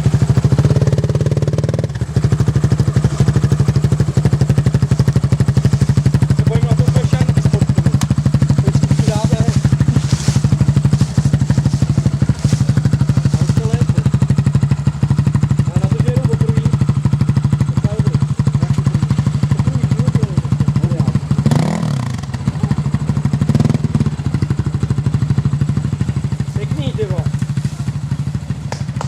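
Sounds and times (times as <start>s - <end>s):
atv engine idling: 0.0s - 29.0s.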